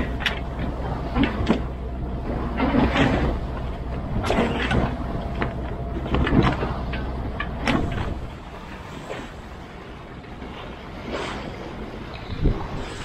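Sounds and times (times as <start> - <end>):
boat engine droning: 0.0 - 13.0
sail rustling and flapping: 0.0 - 13.0.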